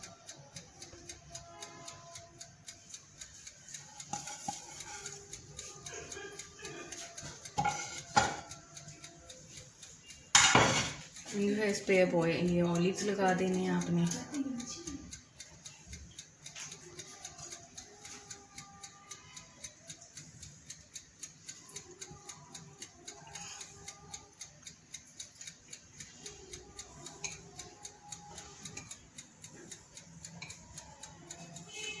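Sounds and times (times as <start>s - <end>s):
faint even ticking: 0.0s - 32.0s.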